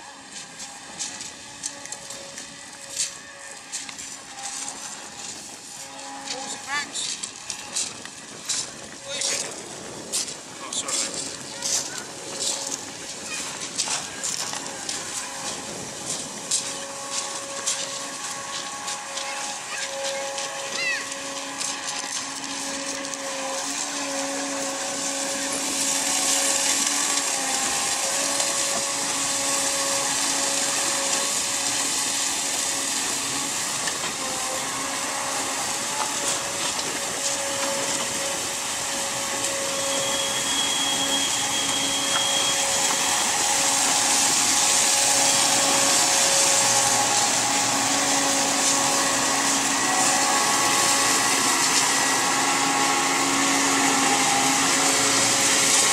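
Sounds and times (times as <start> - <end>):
tractor engine hum with hiss: 0.0 - 55.9.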